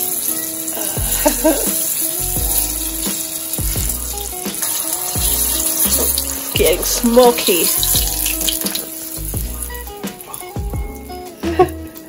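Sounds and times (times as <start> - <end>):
background music with deep bass: 0.0 - 12.0
hot oil sizzling and bubbling: 0.0 - 12.0.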